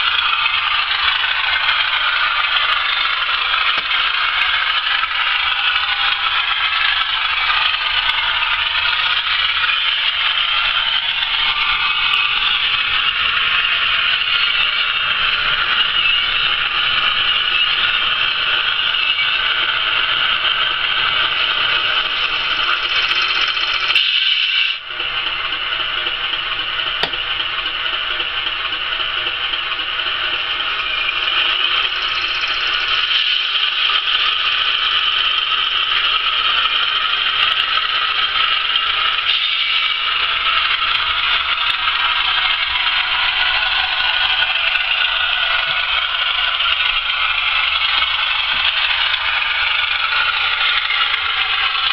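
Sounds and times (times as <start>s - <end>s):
model train diesel sound thin rattle: 0.0s - 51.9s.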